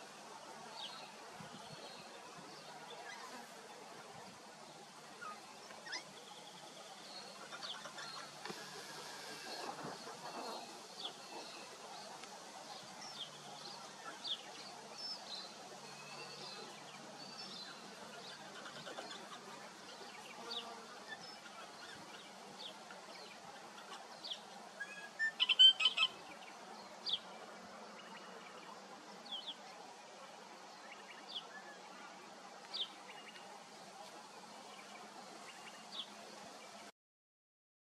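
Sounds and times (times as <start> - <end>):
faint background noise: 0.0 - 36.9
wild birds chirping: 0.6 - 36.9.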